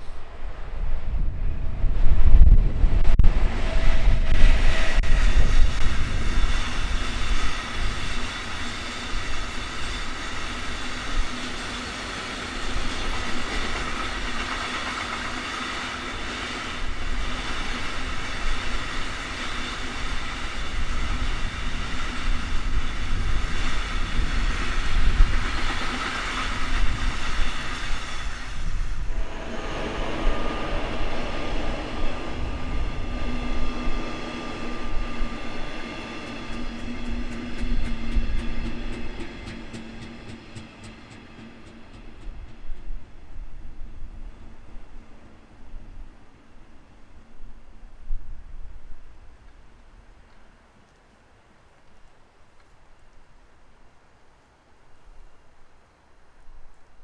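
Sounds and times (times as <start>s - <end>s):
train wheels rumbling on rail: 0.0s - 50.6s
approaching train whine: 0.0s - 50.7s.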